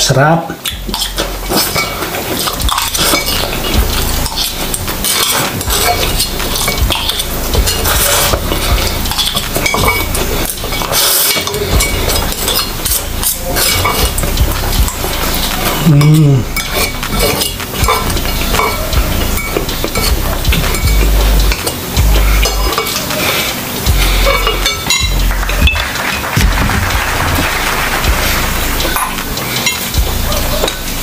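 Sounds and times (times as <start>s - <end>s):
chewing and slurping: 0.6s - 31.0s
cutlery clinking on plates: 0.6s - 31.0s.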